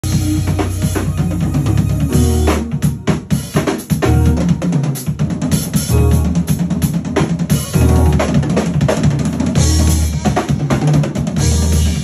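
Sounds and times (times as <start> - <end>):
drum kit solo: 0.0 - 12.0.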